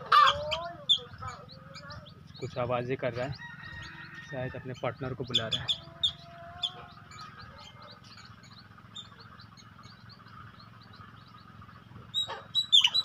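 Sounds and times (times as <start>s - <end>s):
squirrel chirping: 0.1s - 13.0s.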